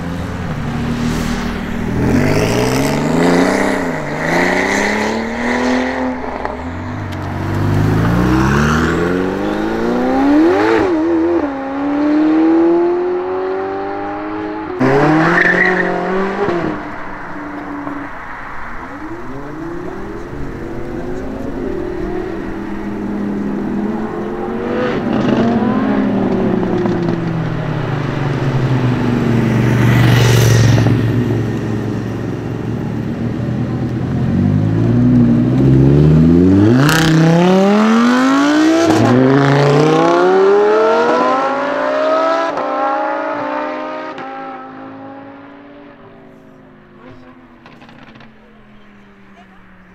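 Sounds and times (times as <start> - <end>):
sports cars accelerating and revving: 0.0 - 49.9.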